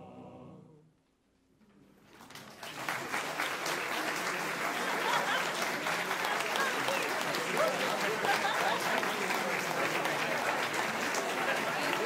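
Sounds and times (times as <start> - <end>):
audience applause: 2.1 - 12.0.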